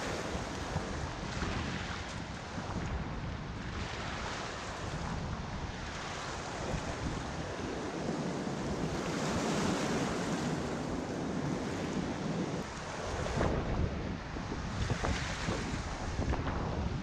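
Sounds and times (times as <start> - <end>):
waves splashing over rocks: 0.0 - 17.0
wind buffeting microphone: 0.0 - 17.0.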